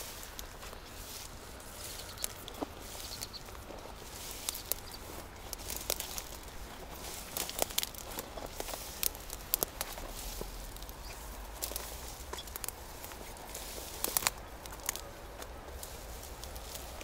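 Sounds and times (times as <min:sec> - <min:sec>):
crackles and rustles: 0:00.0 - 0:17.0
footsteps through grass: 0:00.0 - 0:17.0.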